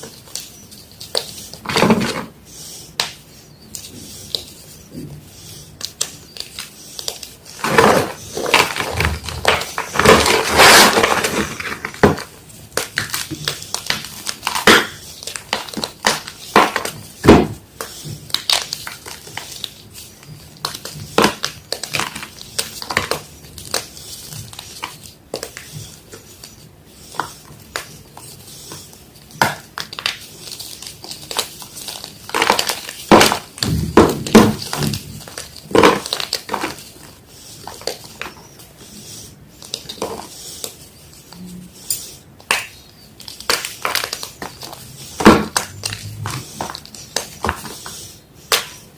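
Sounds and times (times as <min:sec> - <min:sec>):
chalk block being crushed: 0:05.8 - 0:38.6, 0:42.0 - 0:48.9.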